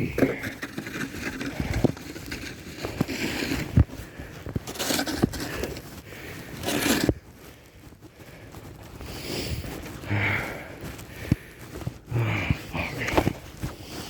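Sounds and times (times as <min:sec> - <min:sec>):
snow shovel scraping snow: 0:00.0 - 0:14.0.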